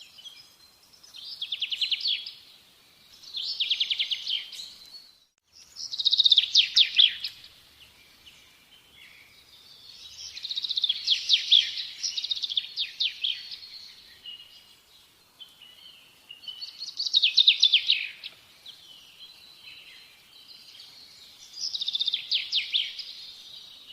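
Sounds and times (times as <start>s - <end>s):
faint bird chirping: 0.0s - 23.9s
songbird trilling and chirping: 0.0s - 23.9s.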